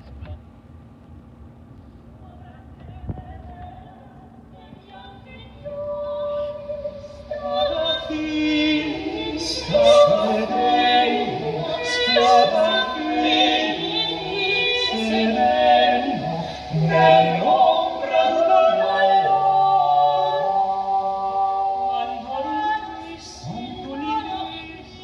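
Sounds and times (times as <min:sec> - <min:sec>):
woman singing a song: 0:02.2 - 0:19.6, 0:21.9 - 0:25.0.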